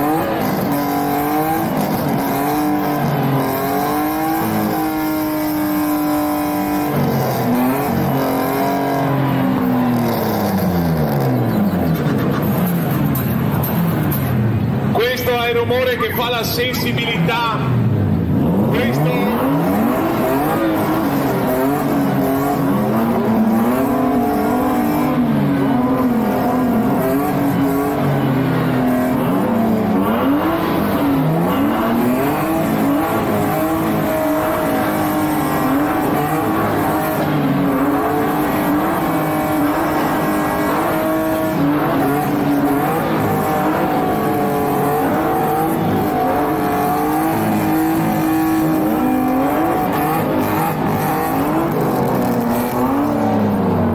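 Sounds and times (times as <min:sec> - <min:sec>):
car engines revving hard: 0:00.0 - 0:53.9.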